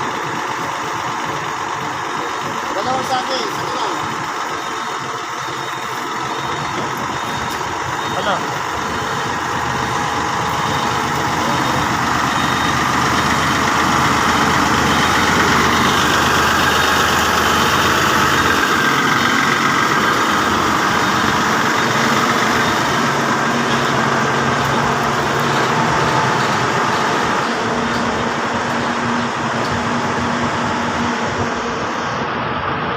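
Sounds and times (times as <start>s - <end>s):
heavy vehicle engine running: 0.0s - 32.9s.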